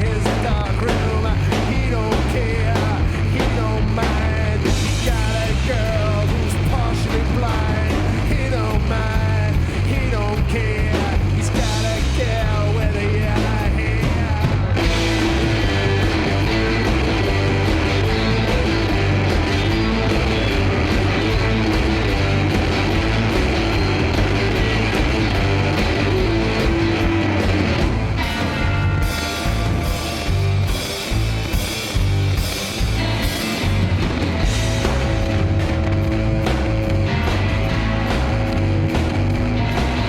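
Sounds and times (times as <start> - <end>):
guitar rock music: 0.0 - 40.0.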